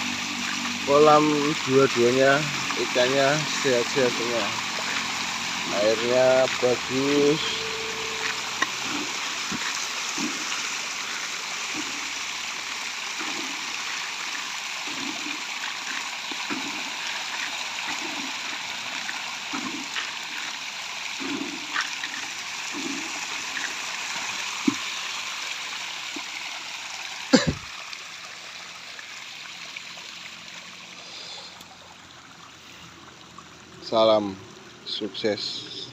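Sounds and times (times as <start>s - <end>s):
low water gurgle: 0.0s - 35.9s
water trickling into pond: 0.0s - 35.9s.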